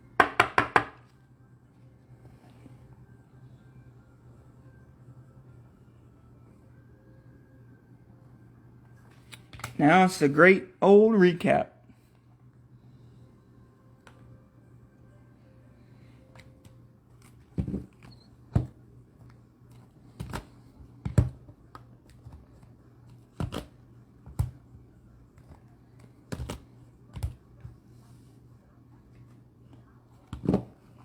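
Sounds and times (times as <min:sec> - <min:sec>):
steady low hum: 0:00.9 - 0:31.0.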